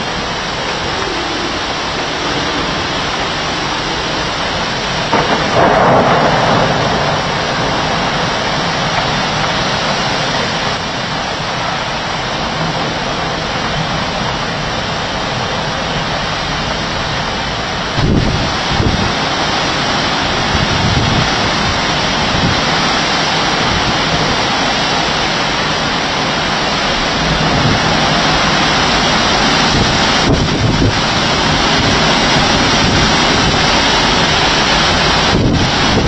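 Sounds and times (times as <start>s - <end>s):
storm wind: 0.0s - 36.0s
torrential rain: 0.0s - 36.0s
wind buffeting microphone: 0.0s - 36.0s.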